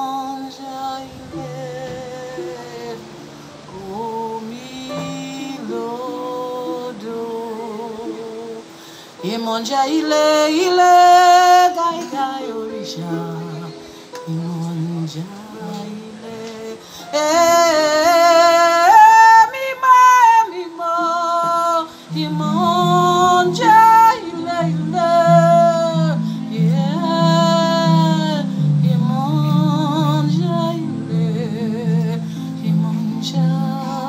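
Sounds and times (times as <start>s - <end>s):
woman singing with vibrato: 0.0s - 34.0s.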